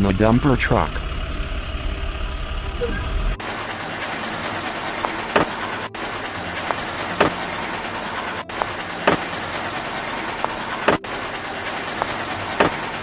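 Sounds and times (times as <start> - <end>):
construction vehicle engine running: 0.0 - 13.0.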